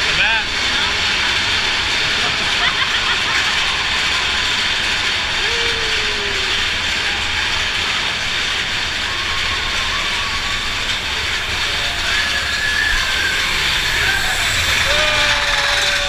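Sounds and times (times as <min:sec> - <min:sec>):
roller coaster rumbling and rattling: 0:00.0 - 0:16.0.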